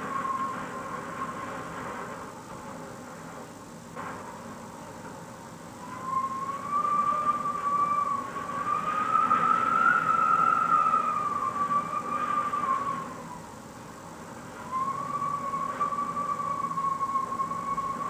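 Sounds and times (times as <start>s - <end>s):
wind whistling through window gap: 0.0s - 18.0s.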